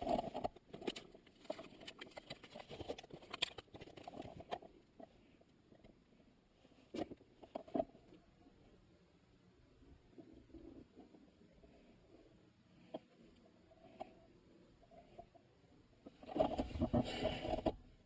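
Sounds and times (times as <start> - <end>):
faint hand-handling noises: 0.0 - 8.9, 9.9 - 18.0.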